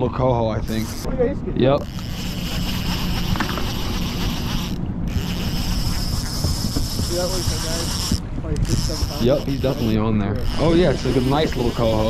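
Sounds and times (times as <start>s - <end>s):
fishing reel cranking: 0.6s - 1.1s, 1.8s - 12.0s.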